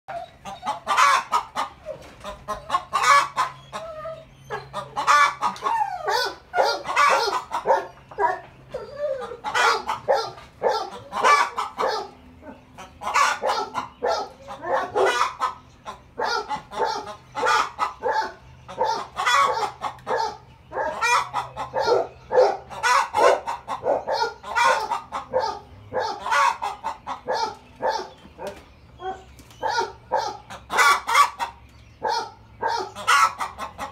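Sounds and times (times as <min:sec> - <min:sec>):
hen cackling loudly: 0:00.1 - 0:28.1, 0:29.6 - 0:33.9.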